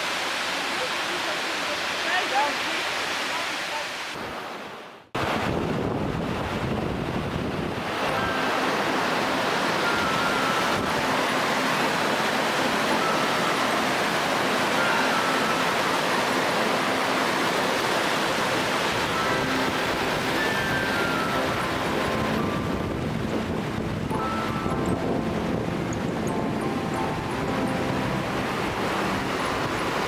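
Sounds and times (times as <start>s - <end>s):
waterfall rushing: 0.0s - 5.7s, 6.3s - 30.0s.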